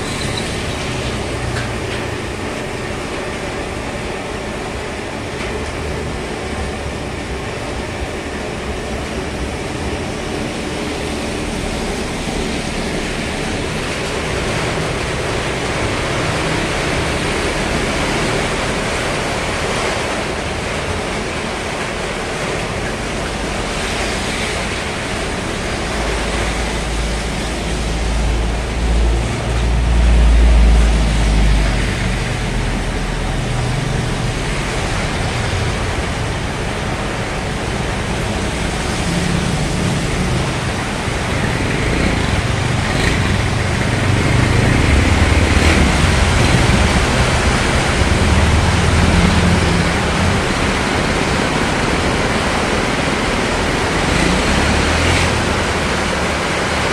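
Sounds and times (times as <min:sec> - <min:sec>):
wind: 0:00.0 - 0:56.9.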